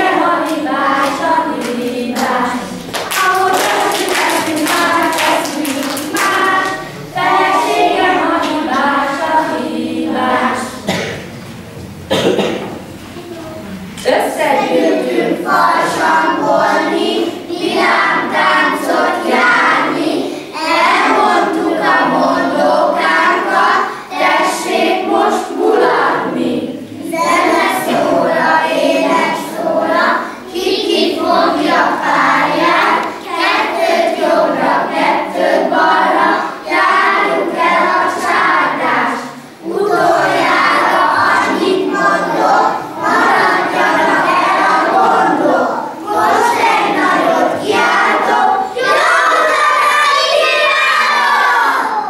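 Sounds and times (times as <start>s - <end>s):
children singing together: 0.0s - 52.0s.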